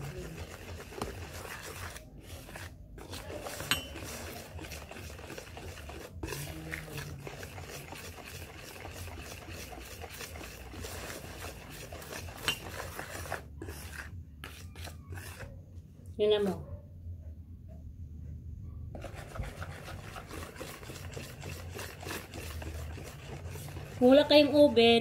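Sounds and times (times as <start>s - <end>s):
whisk scraping in batter: 0.0s - 15.6s, 18.9s - 25.0s.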